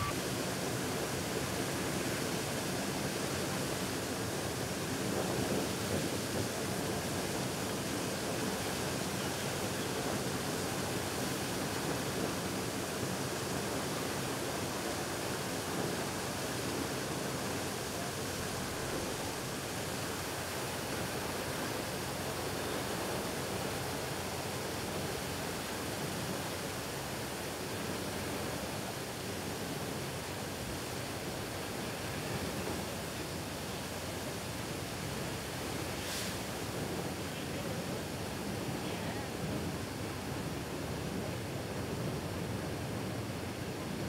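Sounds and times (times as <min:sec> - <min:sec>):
water gushing from hydrant: 0:00.0 - 0:44.0.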